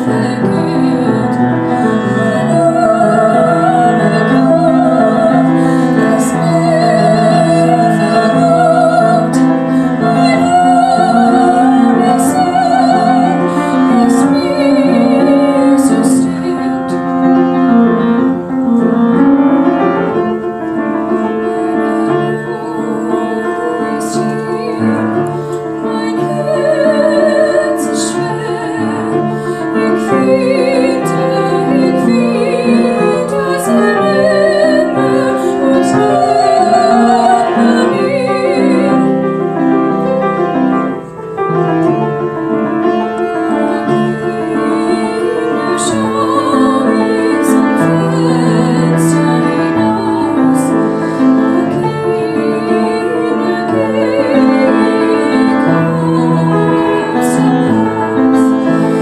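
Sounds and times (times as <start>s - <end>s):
girl singing with vibrato: 0.0s - 17.0s, 21.4s - 39.2s, 43.2s - 59.0s
piano accompaniment: 0.0s - 59.0s.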